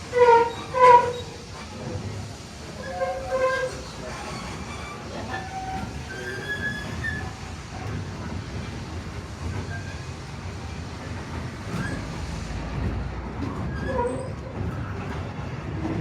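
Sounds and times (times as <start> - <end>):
railroad car rumbling on track: 0.0 - 16.0.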